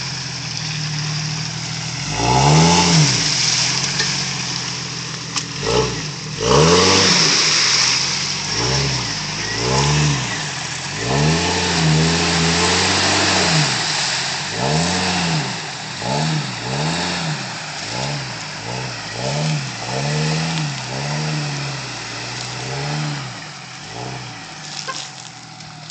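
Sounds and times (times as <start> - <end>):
car engine revving: 0.0 - 25.9
tyres spraying mud: 0.0 - 25.9.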